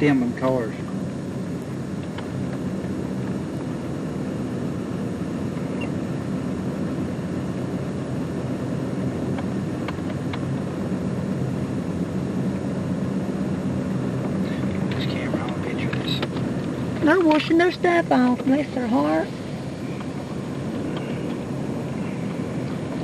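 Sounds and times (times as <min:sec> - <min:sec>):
compressor engine humming: 0:00.0 - 0:23.0.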